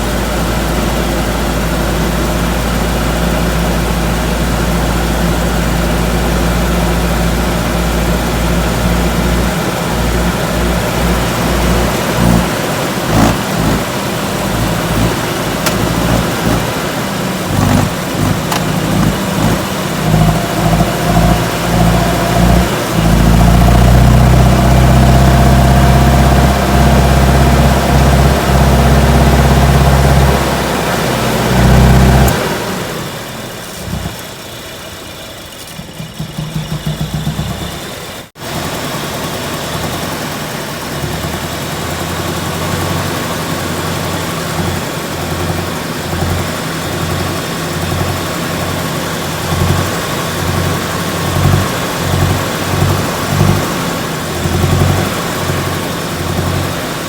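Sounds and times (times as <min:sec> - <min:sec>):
car engine running: 0:00.0 - 0:57.0
engine chugging: 0:00.0 - 0:57.0.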